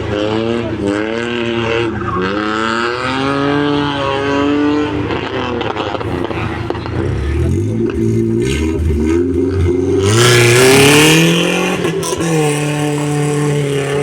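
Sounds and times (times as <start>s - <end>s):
another engine: 0.0s - 14.0s
rally car engine accelerating: 0.0s - 14.0s.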